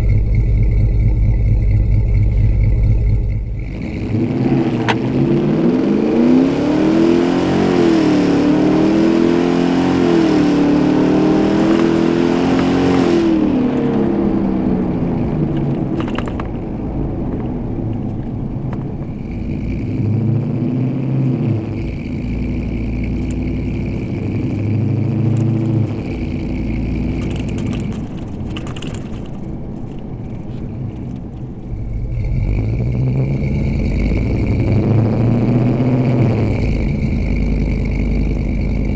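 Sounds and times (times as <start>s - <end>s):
engine accelerating hard: 0.0s - 38.9s.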